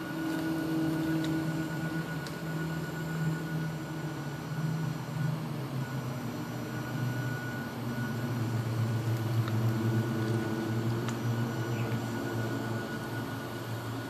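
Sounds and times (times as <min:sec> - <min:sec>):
hydraulic pump humming and whining: 0:00.0 - 0:14.0.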